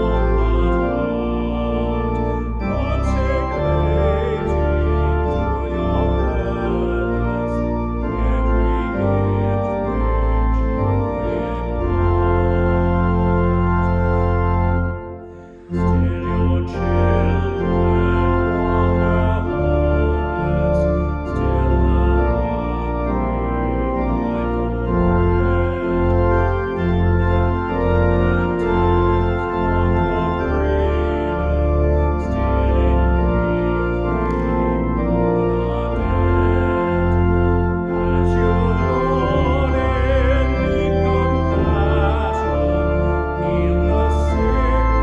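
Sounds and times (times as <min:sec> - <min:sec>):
organ playing a hymn: 0:00.0 - 0:45.0.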